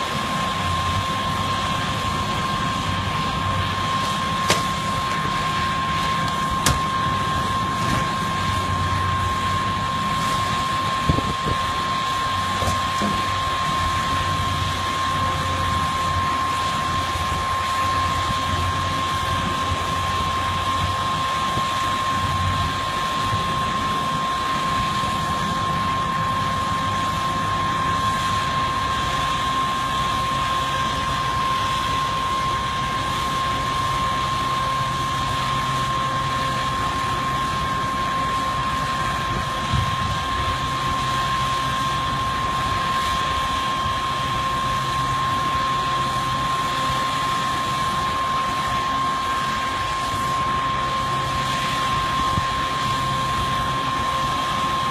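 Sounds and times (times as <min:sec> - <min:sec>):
demolition machinery engine drone: 0:00.0 - 0:54.9
high machine whine: 0:00.0 - 0:54.9.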